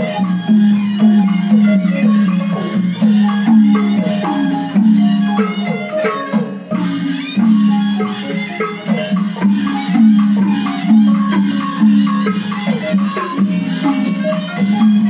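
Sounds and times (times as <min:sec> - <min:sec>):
quick struck melodic notes: 0:00.0 - 0:15.0.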